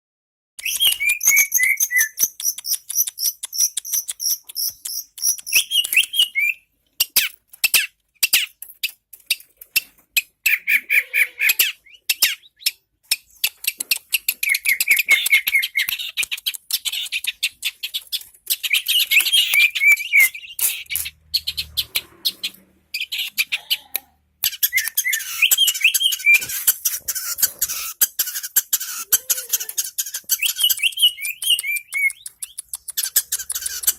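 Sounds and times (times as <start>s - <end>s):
bird singing with clicks and trills: 0.6s - 33.9s.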